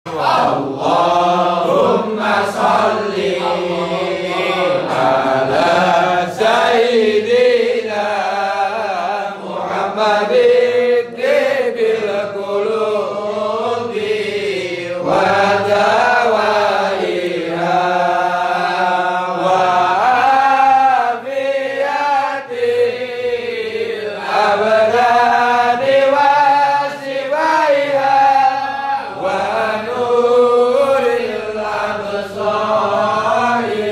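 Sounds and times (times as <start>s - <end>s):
person chanting a slow melody: 0.1s - 33.9s.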